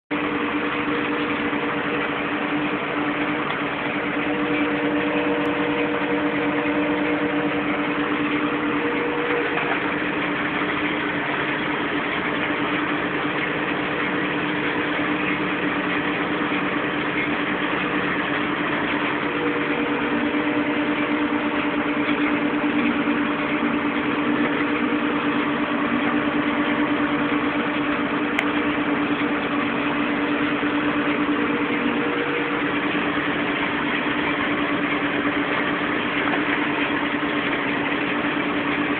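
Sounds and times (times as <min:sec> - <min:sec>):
tractor diesel engine droning: 0:00.1 - 0:38.9.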